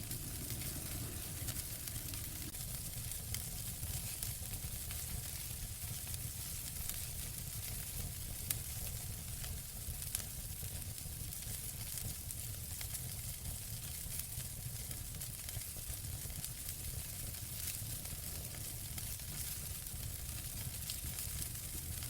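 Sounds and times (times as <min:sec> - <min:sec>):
fireplace fire crackling: 0:00.0 - 0:22.0
sharp snaps of fire: 0:00.0 - 0:22.0.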